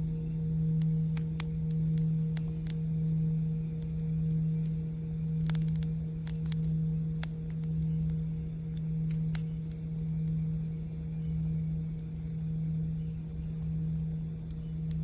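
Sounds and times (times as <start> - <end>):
campfire crackling: 0.0 - 15.0
singing bowl hum: 0.0 - 15.0.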